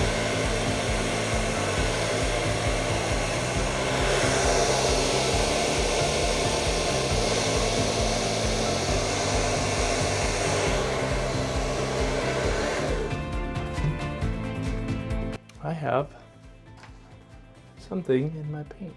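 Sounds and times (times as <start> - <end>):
hair dryer blowing: 0.0 - 15.4.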